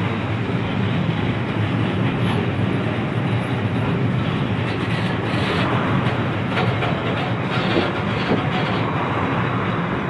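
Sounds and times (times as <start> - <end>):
steel train wheels on rails: 0.0 - 10.0.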